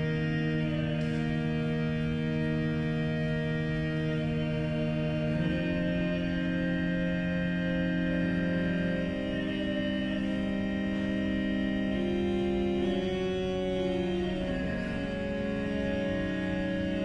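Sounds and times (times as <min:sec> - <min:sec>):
pipe organ chord: 0:00.0 - 0:17.0.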